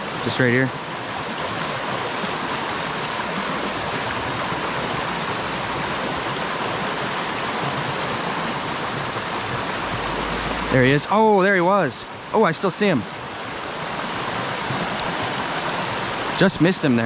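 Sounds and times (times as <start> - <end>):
creek rushing over rocks: 0.0 - 17.0.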